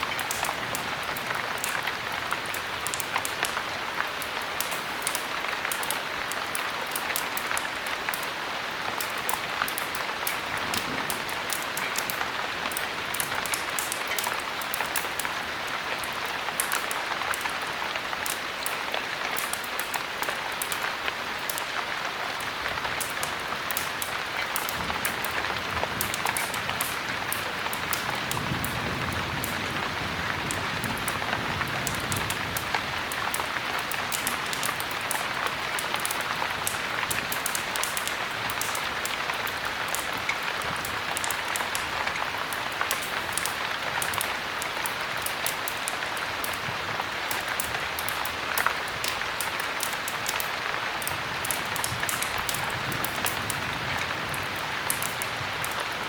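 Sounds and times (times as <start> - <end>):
heavy rain pouring: 0.0 - 56.0
sharp ticks and crackles: 0.0 - 56.0.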